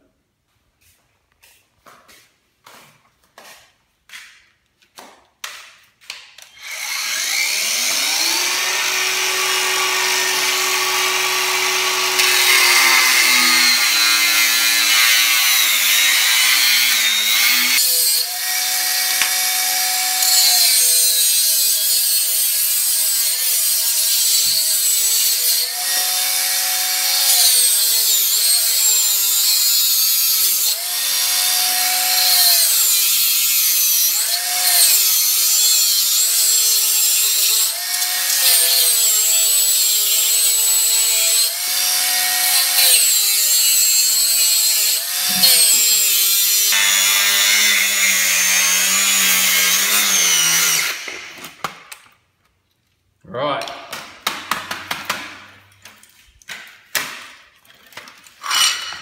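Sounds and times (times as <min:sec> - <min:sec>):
angle grinder cutting plastic and metal: 0:05.4 - 0:52.1, 0:56.5 - 0:59.0.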